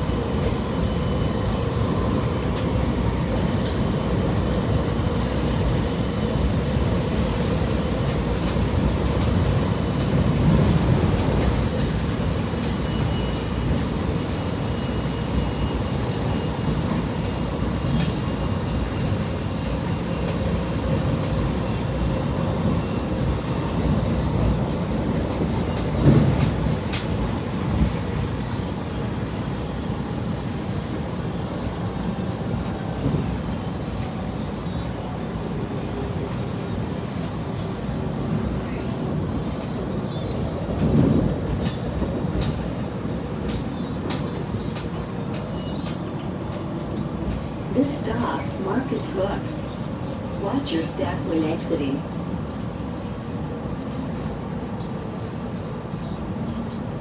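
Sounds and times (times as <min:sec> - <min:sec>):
train rumble inside car: 0:00.0 - 0:57.0.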